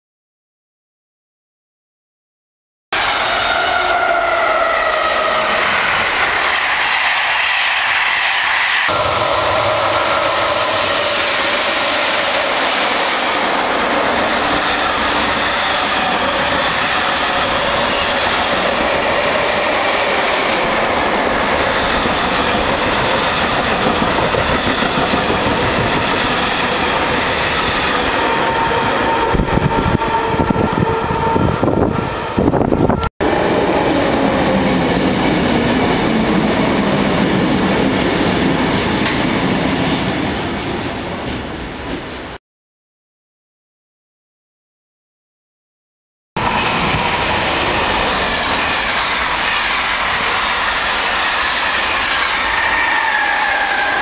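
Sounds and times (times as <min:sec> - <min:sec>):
electric train rolling past: 0:03.0 - 0:42.4, 0:46.4 - 0:54.0
passing train with falling tone: 0:03.0 - 0:42.4, 0:46.4 - 0:54.0.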